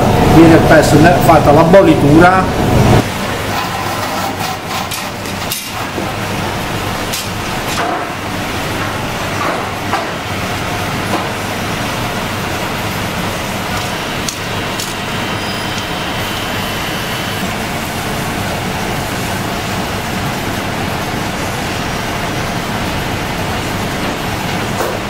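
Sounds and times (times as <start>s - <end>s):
machine hum and rumble: 0.0s - 25.0s.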